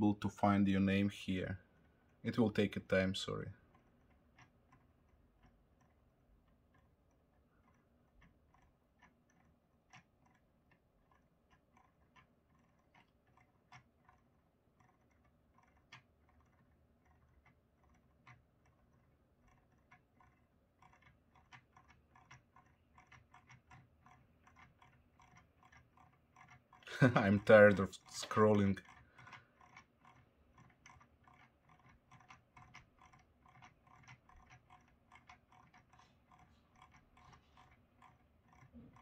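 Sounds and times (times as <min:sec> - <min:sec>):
mouse scroll wheel clicking: 0:02.1 - 0:39.0.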